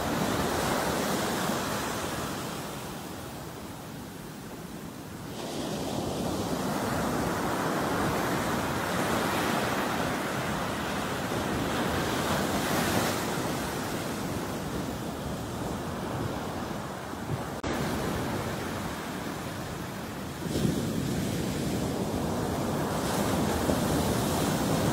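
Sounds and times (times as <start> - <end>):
ocean surf breaking on beach: 0.0 - 24.9.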